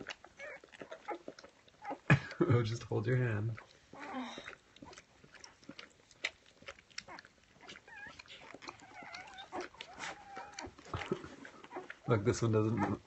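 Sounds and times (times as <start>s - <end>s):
puppies whimpering: 0.0s - 2.5s, 3.4s - 13.0s
puppies nursing wet smacks: 0.0s - 13.0s.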